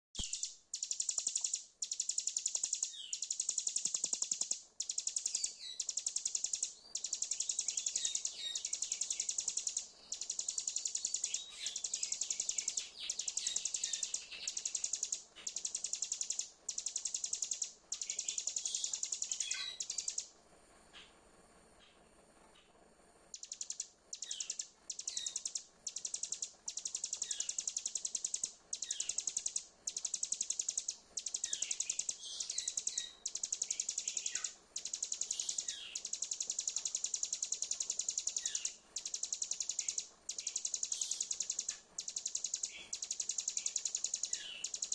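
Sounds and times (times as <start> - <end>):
bird buzzing trill song: 0.2 - 20.3, 23.4 - 44.9.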